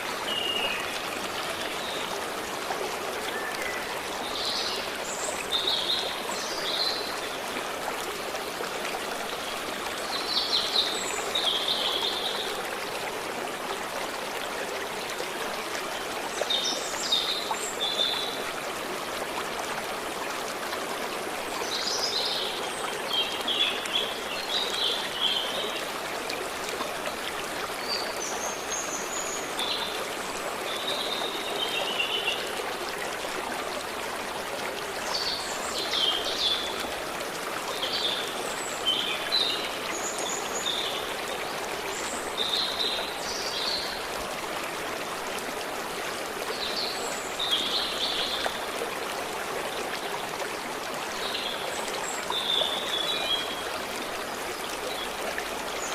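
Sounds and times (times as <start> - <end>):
stream running over stones: 0.0 - 55.9.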